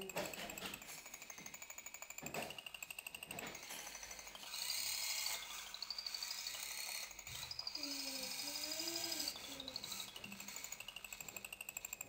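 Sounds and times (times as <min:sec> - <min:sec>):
robot gear motors whining: 0:00.0 - 0:12.0.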